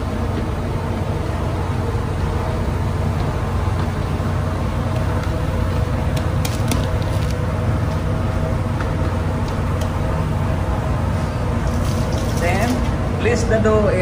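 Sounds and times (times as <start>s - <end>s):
constant hum: 0.0s - 14.0s
low machinery drone: 0.0s - 14.0s.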